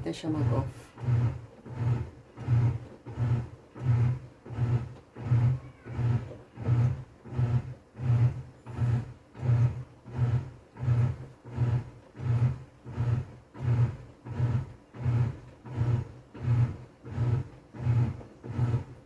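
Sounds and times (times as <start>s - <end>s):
washing machine churning: 0.0s - 19.0s.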